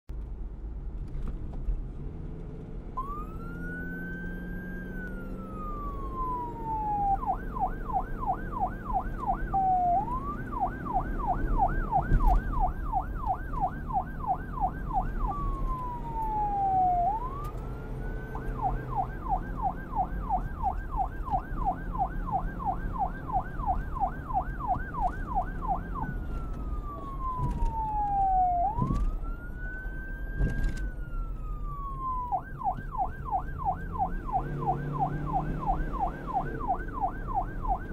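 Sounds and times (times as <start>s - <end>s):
police siren wailing and yelping: 3.0s - 37.9s.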